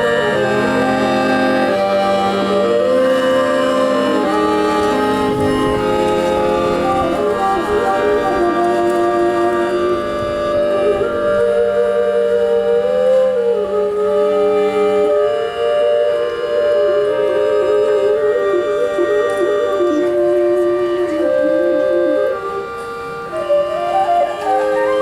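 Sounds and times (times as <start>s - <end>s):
flute wavering melody: 0.0s - 25.0s
folk band music: 0.0s - 25.0s.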